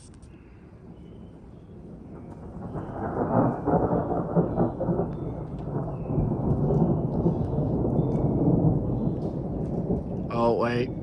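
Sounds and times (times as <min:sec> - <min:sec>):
deep thunder rumble: 0:00.7 - 0:11.0.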